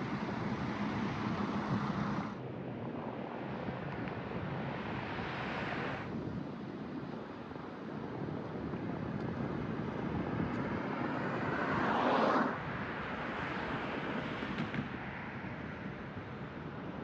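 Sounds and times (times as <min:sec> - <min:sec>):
traffic noise: 0:00.0 - 0:17.0
wind on microphone: 0:00.0 - 0:17.0.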